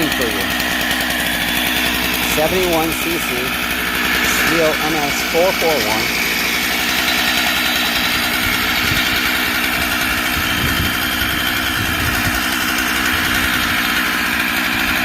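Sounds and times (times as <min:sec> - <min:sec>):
chainsaw engine idling: 0:00.0 - 0:15.0.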